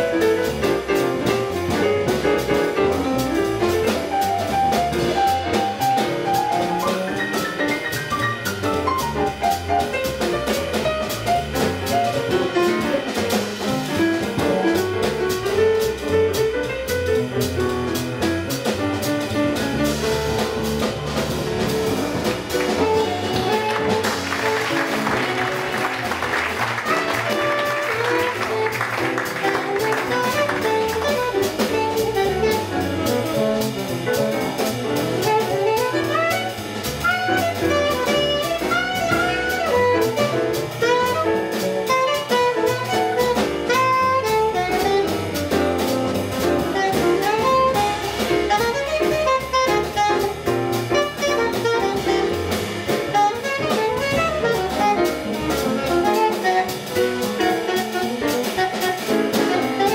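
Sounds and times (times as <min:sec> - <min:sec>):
drum kit cymbal strokes: 0:00.0 - 0:26.3, 0:26.9 - 0:59.9
alto saxophone: 0:00.0 - 0:59.9
double bass: 0:00.0 - 0:59.9
piano: 0:00.0 - 0:59.9.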